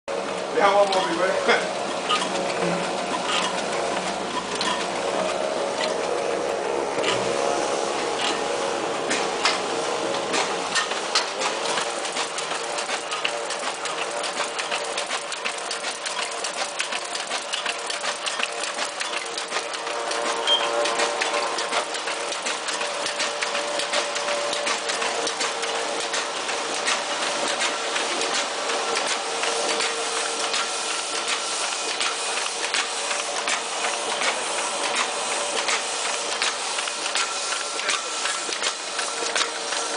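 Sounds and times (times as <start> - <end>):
machine hum: 0.1 - 39.9
printing press clattering: 0.1 - 39.9.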